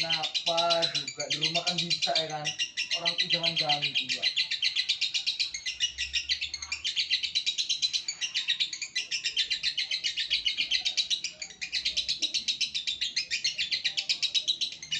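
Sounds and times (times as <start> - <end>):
lovebird chirping: 0.0 - 14.9.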